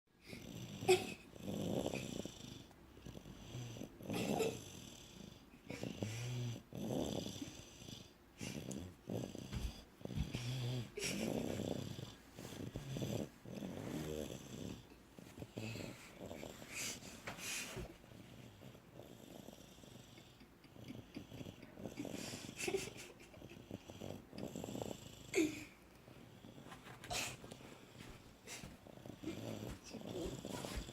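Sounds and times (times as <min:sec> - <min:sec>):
snoring: 0:00.2 - 0:30.9.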